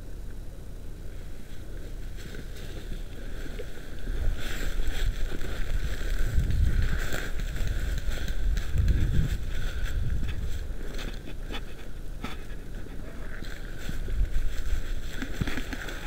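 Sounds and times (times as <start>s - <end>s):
wind rumbling on microphone: 0.0s - 16.0s
footsteps crunching through dry leaves: 1.4s - 16.0s.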